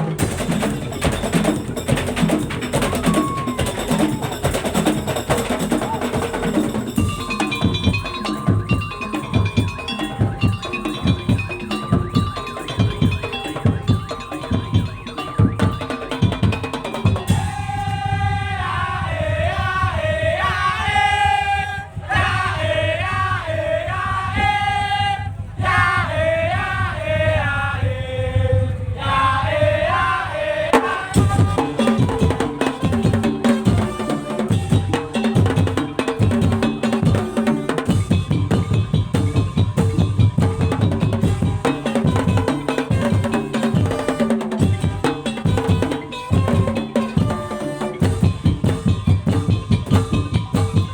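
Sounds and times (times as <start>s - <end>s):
pitched percussion: 0.0s - 27.4s, 29.0s - 50.9s
steady drumming: 0.0s - 50.9s.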